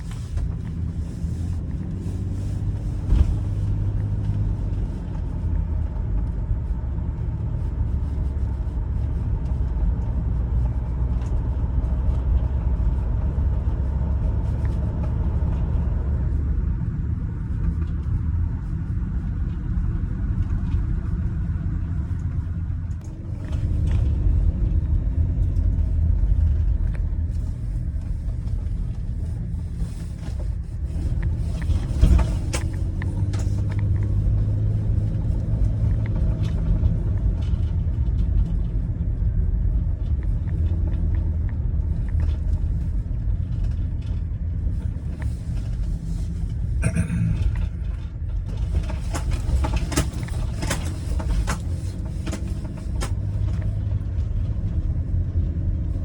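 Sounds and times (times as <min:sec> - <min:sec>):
low road rumble: 0:00.0 - 0:56.0
minivan engine running: 0:00.0 - 0:56.0.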